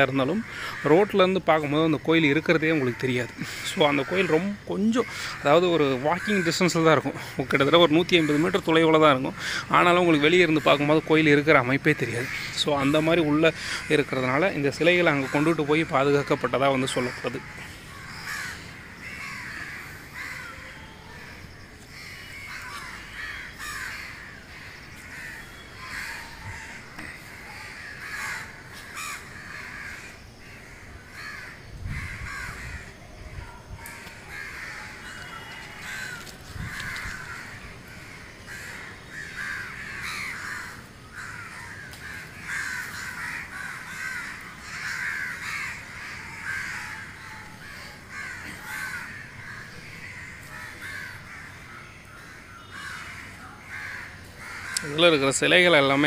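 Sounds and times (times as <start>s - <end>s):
flock of birds calling: 0.0s - 56.0s.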